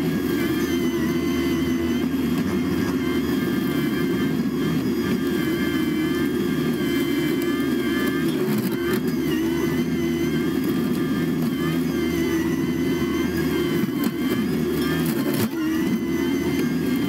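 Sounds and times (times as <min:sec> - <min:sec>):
brush cutter whine: 0:00.0 - 0:17.0
diesel engine running under load: 0:00.0 - 0:17.0.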